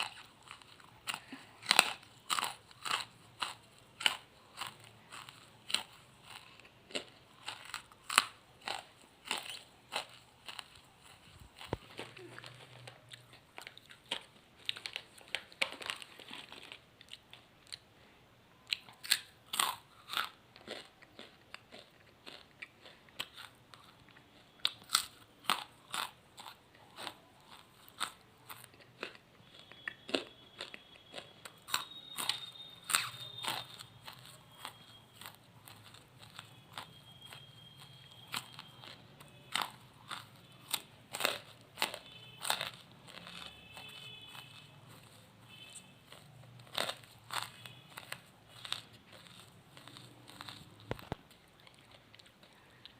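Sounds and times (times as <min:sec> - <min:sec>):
person chewing charcoal crunching: 0:00.0 - 0:17.9, 0:18.6 - 0:52.9.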